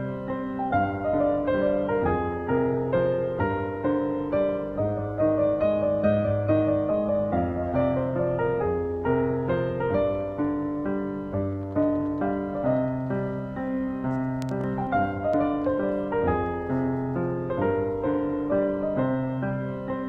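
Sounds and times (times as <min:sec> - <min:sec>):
calm piano music: 0:00.0 - 0:20.0.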